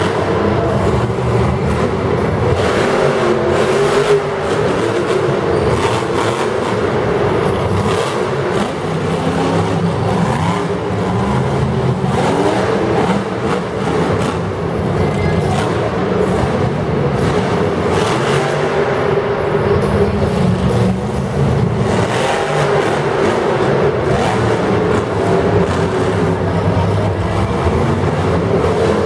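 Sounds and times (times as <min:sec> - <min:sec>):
truck engine revving: 0:00.0 - 0:29.0.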